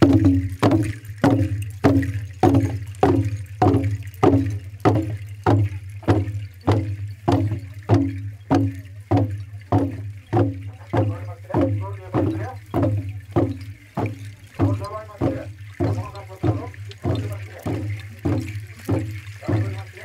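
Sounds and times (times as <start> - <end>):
hand drums beating: 0.0 - 20.0.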